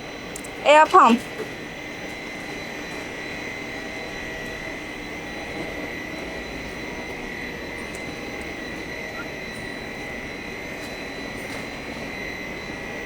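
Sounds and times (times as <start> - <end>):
constant high whine: 0.0 - 13.0.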